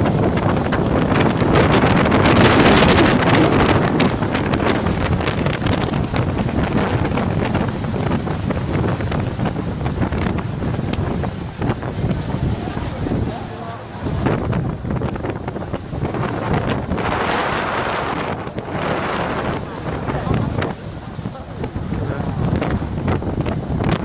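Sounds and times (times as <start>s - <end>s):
motorboat engine: 0.0s - 24.0s
rushing water: 0.0s - 24.0s
wind buffeting microphone: 0.0s - 24.0s.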